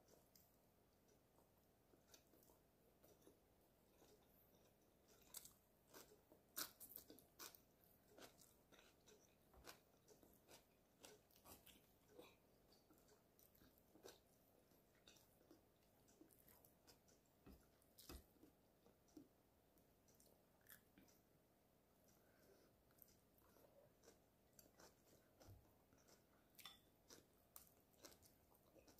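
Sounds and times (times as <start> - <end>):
person chewing crunchy vegetables: 1.4 - 19.3, 22.1 - 28.9.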